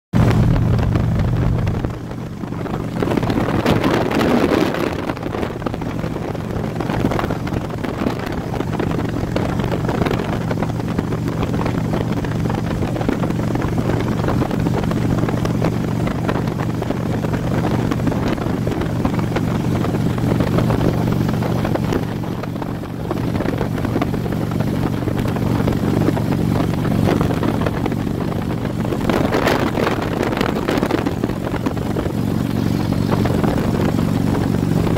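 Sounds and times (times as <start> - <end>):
wind rushing over microphone: 0.1 - 34.9
motorcycle engine cruising: 0.2 - 34.9.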